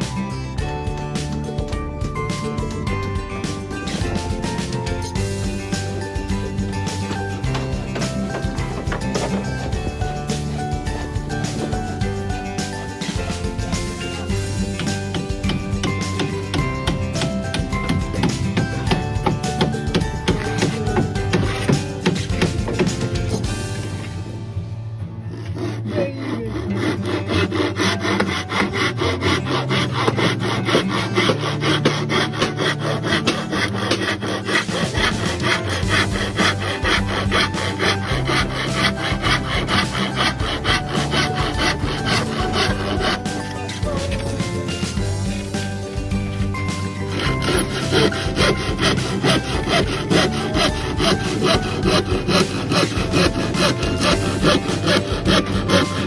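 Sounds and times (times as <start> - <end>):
hand saw cutting wood: 2.2 - 24.0, 25.3 - 45.2, 46.6 - 56.0.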